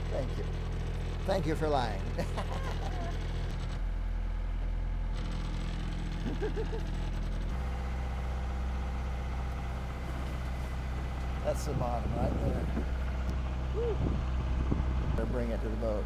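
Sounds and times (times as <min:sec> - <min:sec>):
boat motor humming: 0:00.0 - 0:04.1, 0:05.2 - 0:16.0.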